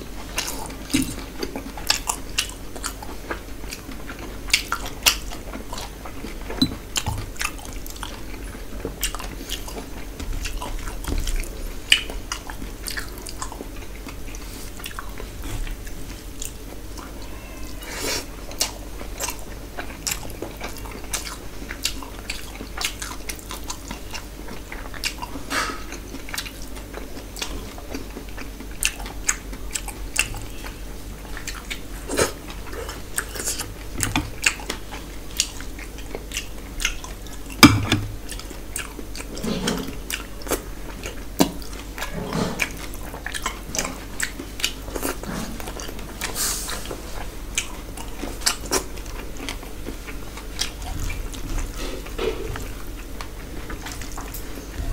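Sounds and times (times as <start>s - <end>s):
chewing and mouth sounds: 0.2s - 54.9s.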